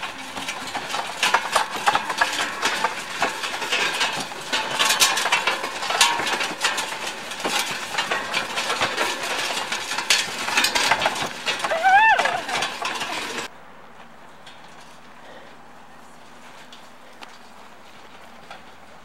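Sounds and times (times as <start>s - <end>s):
wooden carts rattling on dirt road: 0.0s - 19.0s.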